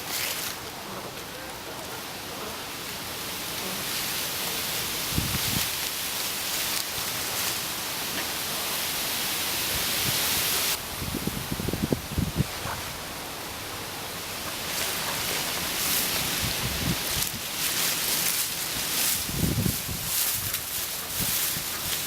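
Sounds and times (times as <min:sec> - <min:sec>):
rain hissing: 0:02.2 - 0:22.0.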